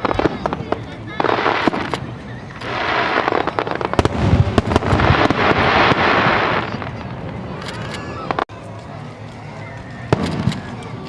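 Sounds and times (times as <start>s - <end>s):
fireworks bursting: 0.0s - 11.0s
fireworks crackle: 0.0s - 11.0s.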